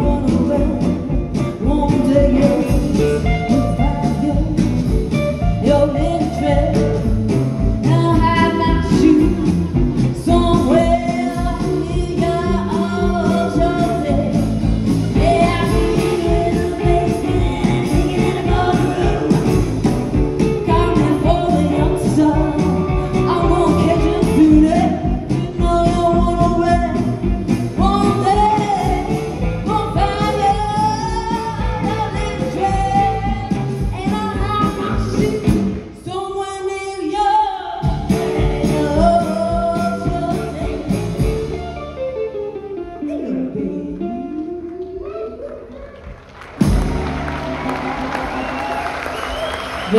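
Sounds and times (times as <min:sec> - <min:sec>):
upright double bass: 0:00.0 - 0:35.8, 0:37.8 - 0:42.0, 0:46.4 - 0:49.9
electric guitar: 0:00.0 - 0:36.0, 0:37.6 - 0:49.9
woman singing: 0:00.0 - 0:41.7, 0:42.9 - 0:45.2.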